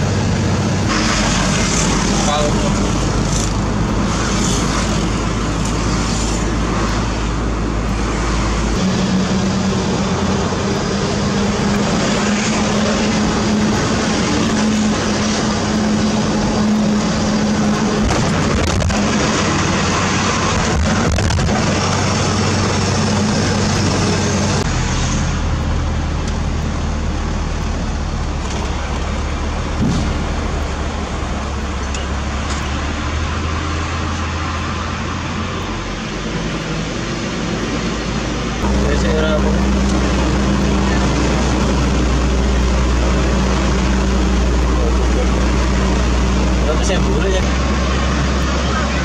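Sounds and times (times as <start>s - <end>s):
dense mechanical noise: 0.0s - 49.0s
heavy diesel engine running: 0.0s - 49.0s.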